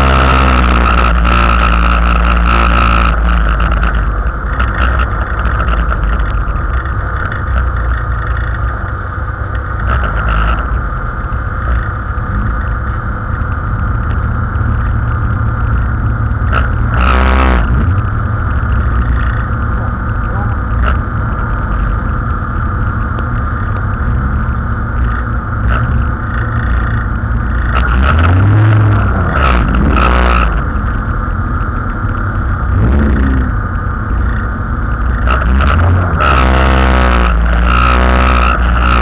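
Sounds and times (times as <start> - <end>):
race car engine revving: 0.0 - 8.8, 9.5 - 39.0.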